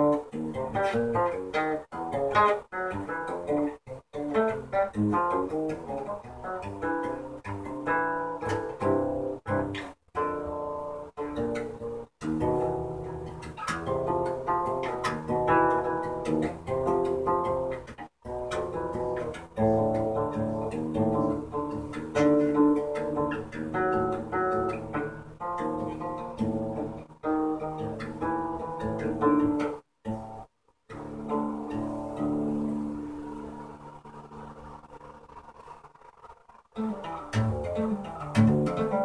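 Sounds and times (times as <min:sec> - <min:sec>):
fingerstyle acoustic guitar: 0:00.0 - 0:36.1, 0:36.8 - 0:39.0.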